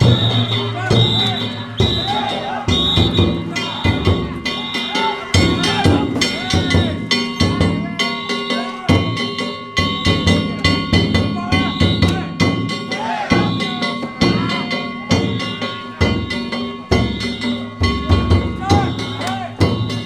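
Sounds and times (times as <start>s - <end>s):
taiko drums: 0.0s - 20.0s
wavering high melody: 0.0s - 20.0s.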